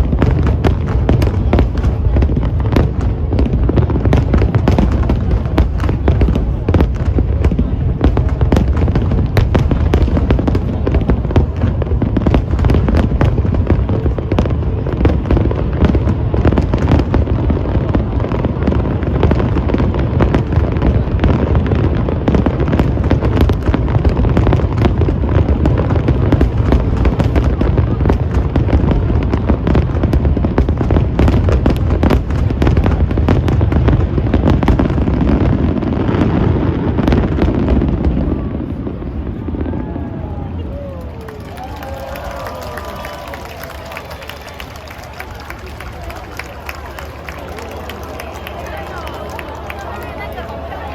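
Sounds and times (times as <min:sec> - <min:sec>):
fireworks cracks and bangs: 0:00.0 - 0:50.9.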